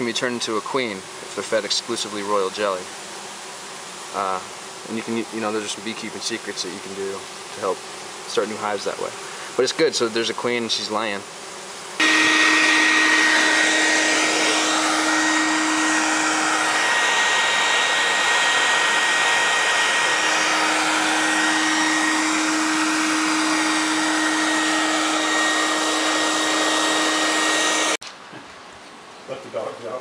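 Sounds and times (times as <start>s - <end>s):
steady hum with whine: 0.0s - 28.0s
bee vacuum rushing air: 0.8s - 28.0s.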